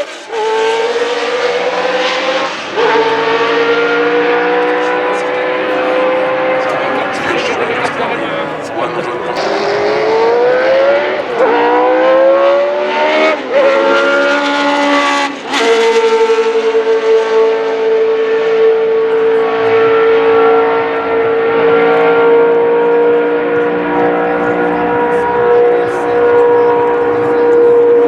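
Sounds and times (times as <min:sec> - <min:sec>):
racing car engine accelerating: 0:00.0 - 0:28.0.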